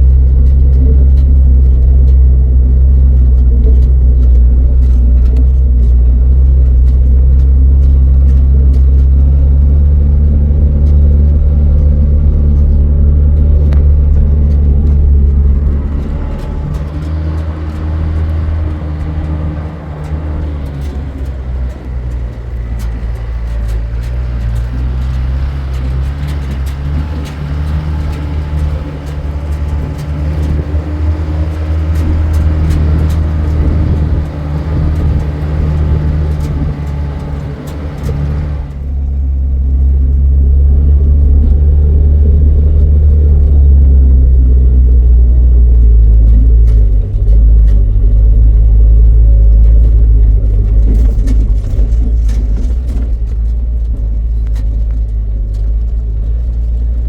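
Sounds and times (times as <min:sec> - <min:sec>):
road rumble: 0:00.0 - 0:57.0
vehicle engine drone: 0:00.0 - 0:57.0.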